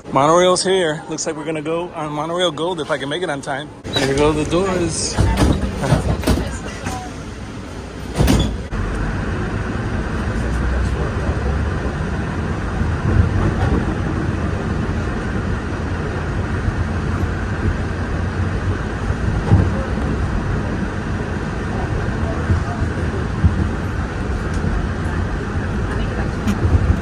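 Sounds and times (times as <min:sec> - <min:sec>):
monorail train rumble and hiss: 0:00.0 - 0:27.0.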